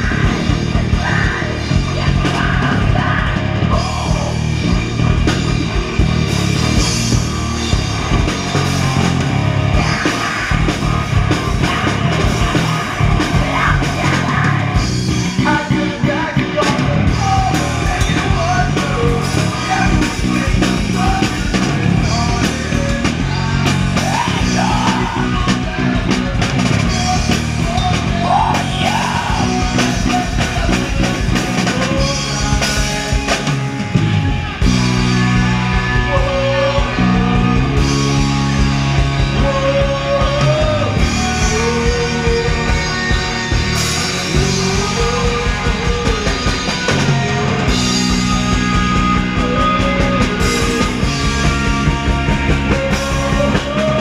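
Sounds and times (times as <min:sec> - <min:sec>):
person singing lead vocals: 0:00.0 - 0:05.3, 0:08.6 - 0:54.0
bass: 0:00.0 - 0:54.0
distorted electric guitars: 0:00.0 - 0:54.0
drum kit: 0:00.0 - 0:54.0.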